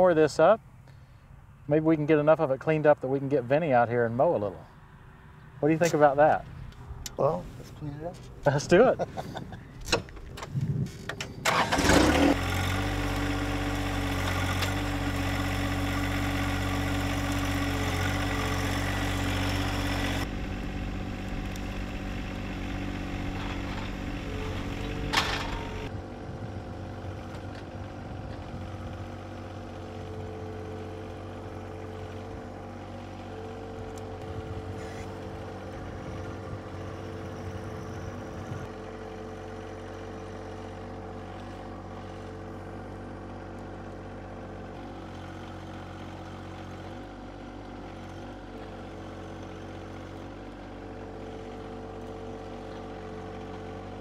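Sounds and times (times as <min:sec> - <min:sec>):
tractor diesel engine running: 0:05.6 - 0:54.0.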